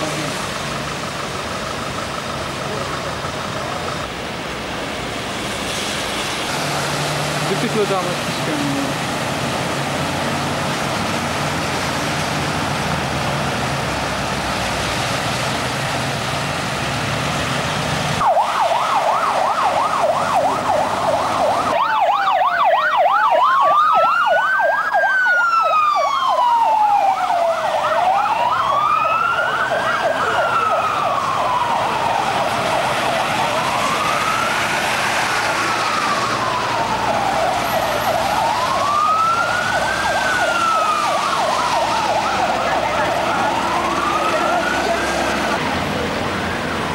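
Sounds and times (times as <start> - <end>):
emergency vehicle sirens: 0.0 - 46.9
vehicle engine noise: 0.0 - 46.9
water splashing under vehicles: 0.0 - 46.9.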